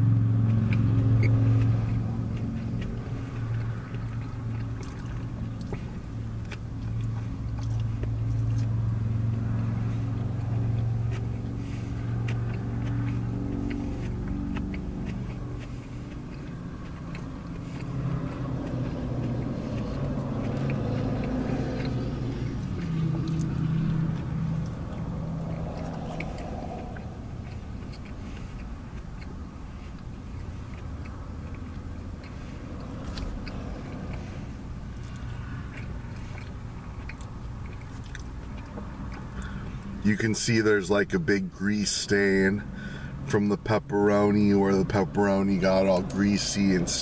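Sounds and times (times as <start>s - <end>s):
chewing bread: 0.0s - 42.0s
car engine idling: 0.0s - 47.0s
wet mouth clicks: 0.4s - 40.0s.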